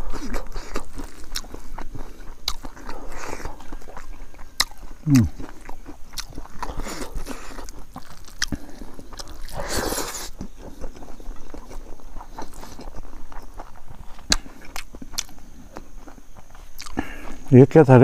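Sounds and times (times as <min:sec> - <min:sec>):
person chewing: 0:00.0 - 0:17.5.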